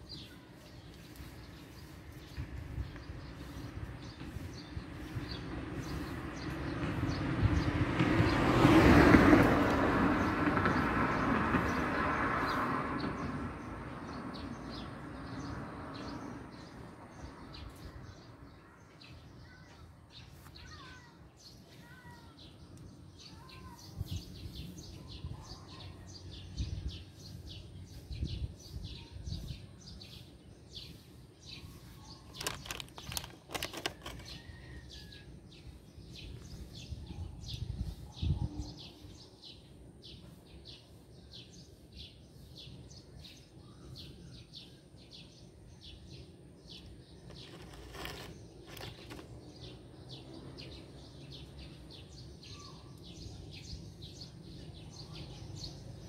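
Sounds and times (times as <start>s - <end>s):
birds chirping: 0.0s - 7.8s, 12.4s - 56.0s.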